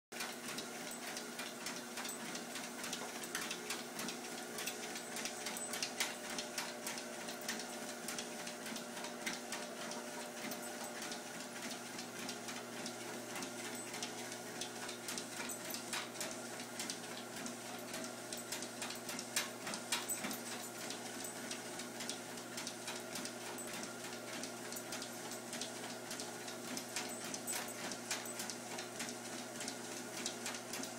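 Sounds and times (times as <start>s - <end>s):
treadmill motor humming: 0.2s - 30.9s.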